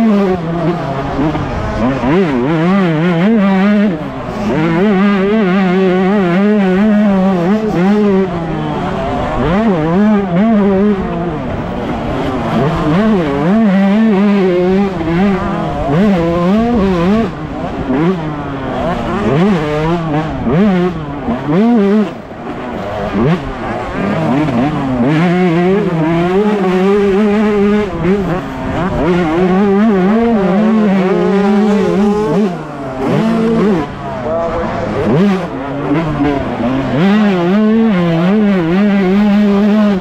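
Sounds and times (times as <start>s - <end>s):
another two-stroke bike: 0.0s - 40.0s
two-stroke motocross engine revving: 0.0s - 40.0s.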